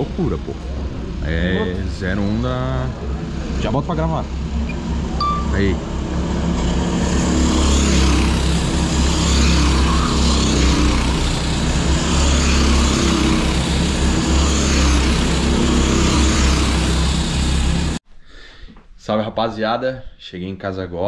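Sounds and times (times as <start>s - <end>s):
kart engines running: 0.0s - 18.0s.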